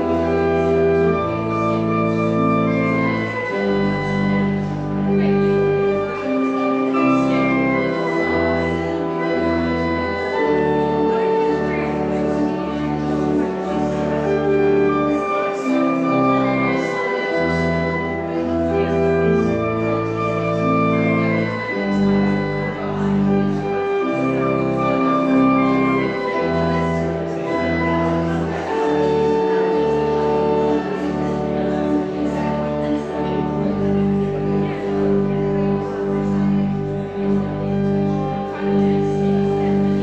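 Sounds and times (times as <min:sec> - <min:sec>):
church organ playing chords: 0:00.0 - 0:40.0.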